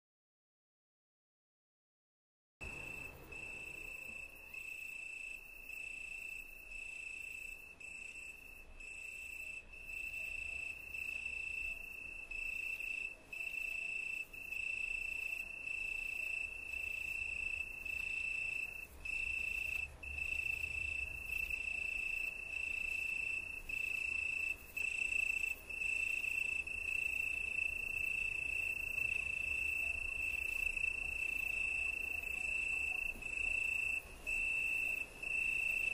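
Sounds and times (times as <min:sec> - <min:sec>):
cricket trilling: 0:02.6 - 0:35.9.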